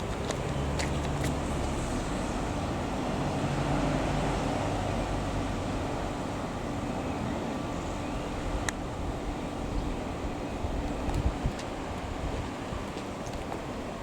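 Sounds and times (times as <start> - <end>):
outdoor noise: 0.0 - 14.0.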